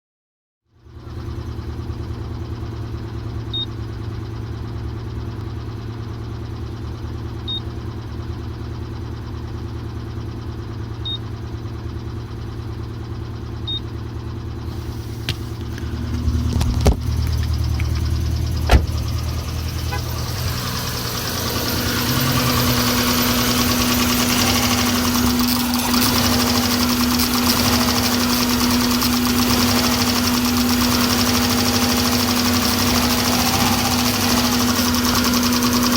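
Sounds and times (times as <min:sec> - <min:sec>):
car engine idling and misfiring: 0:00.7 - 0:35.9.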